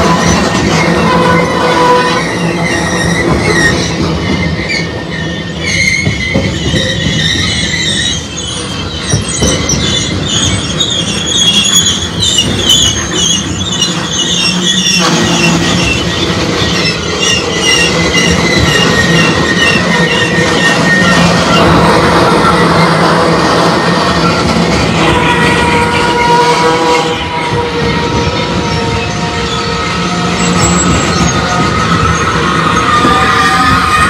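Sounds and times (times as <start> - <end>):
high-pitched wheel squeal: 0.0 - 34.0
train wheels rumbling on rail: 0.0 - 34.0.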